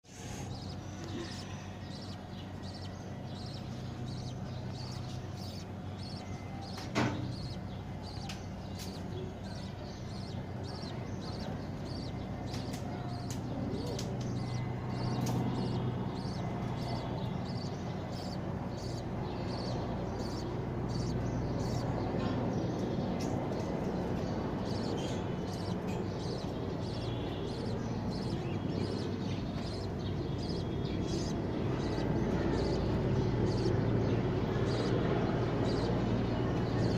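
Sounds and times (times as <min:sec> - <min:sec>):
steady background hum: 0:00.0 - 0:36.9
budgerigars chirping: 0:00.1 - 0:36.9.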